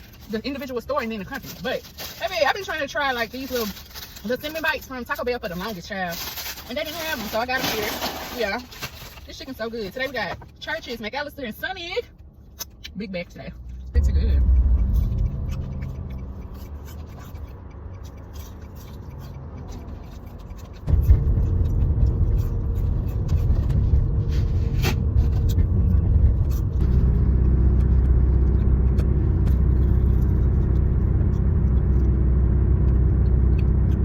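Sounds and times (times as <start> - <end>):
car engine starting and running: 0.0 - 34.0.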